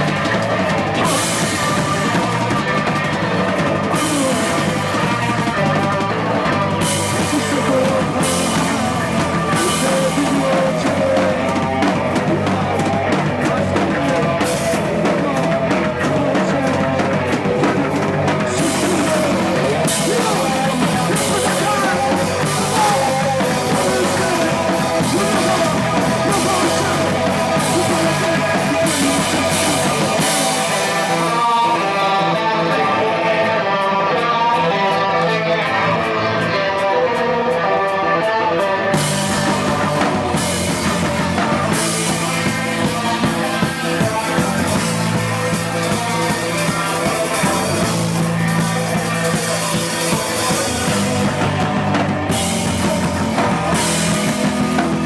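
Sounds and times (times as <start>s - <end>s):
drum kit with cymbals: 0.0s - 55.0s
rock band playing live: 0.0s - 55.0s.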